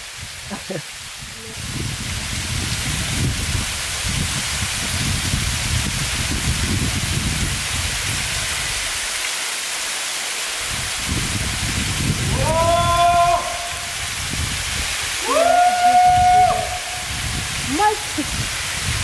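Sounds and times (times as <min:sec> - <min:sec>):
waterfall spray hissing: 0:00.0 - 0:19.0.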